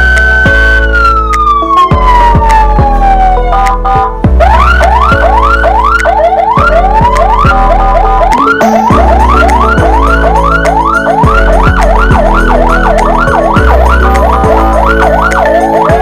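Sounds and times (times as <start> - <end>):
electronic siren yelping: 0.0 - 16.0
lower steady siren tones: 0.0 - 16.0.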